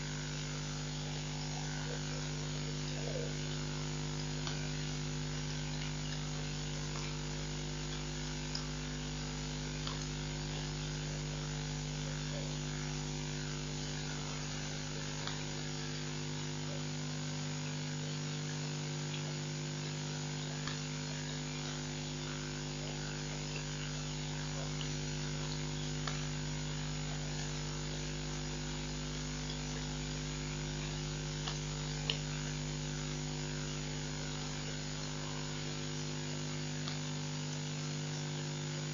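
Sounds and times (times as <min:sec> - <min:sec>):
constant hiss: 0:00.0 - 0:38.9
electrical mains hum: 0:00.0 - 0:38.9.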